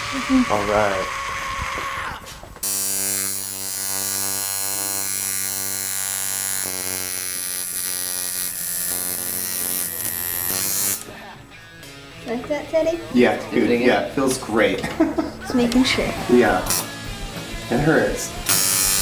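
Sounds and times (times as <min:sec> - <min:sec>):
tattoo machine buzzing: 0:00.0 - 0:12.2, 0:15.5 - 0:19.0.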